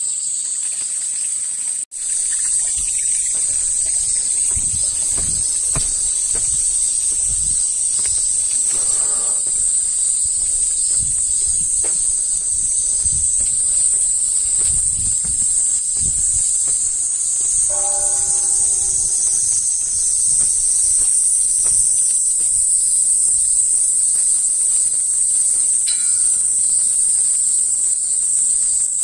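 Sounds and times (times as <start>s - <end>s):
high-pitched insect chorus: 0.0s - 29.0s
footsteps on stone steps: 1.9s - 28.3s.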